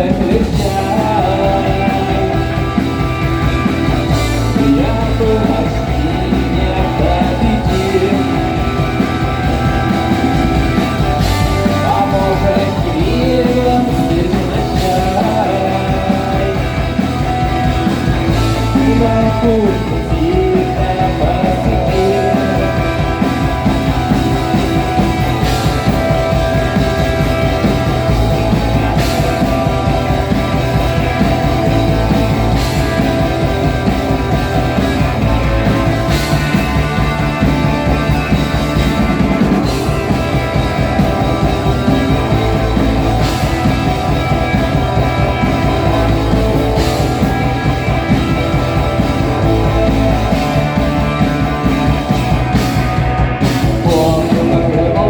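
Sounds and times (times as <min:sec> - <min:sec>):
instrumental rock music: 0:00.0 - 0:55.0.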